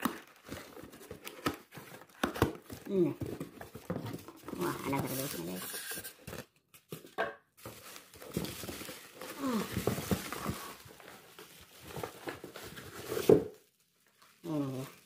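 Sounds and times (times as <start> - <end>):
bubble wrap crinkling: 0.0 - 6.9, 7.6 - 15.0
cardboard box rustling and scraping: 0.3 - 6.5, 7.6 - 13.6.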